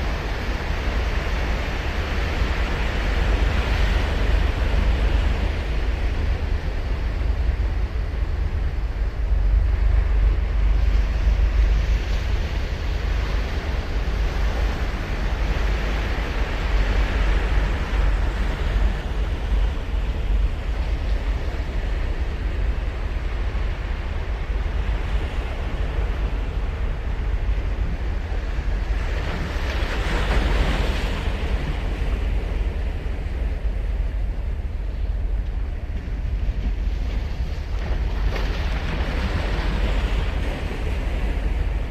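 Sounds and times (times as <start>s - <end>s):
wind rumble on microphone: 0.0s - 41.9s.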